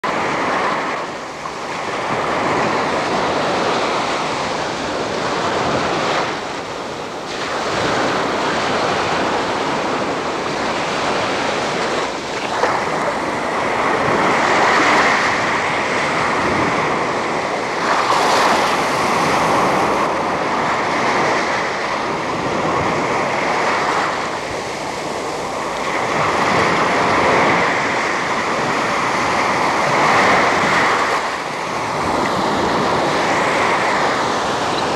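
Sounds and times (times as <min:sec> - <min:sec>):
continuous rushing noise: 0:00.0 - 0:34.9.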